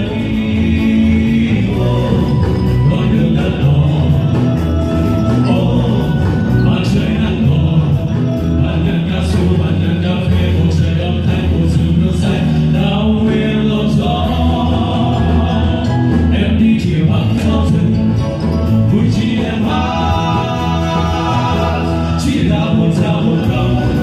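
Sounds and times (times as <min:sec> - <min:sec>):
group of voices singing: 0:00.0 - 0:24.0
instrumental accompaniment: 0:00.0 - 0:24.0.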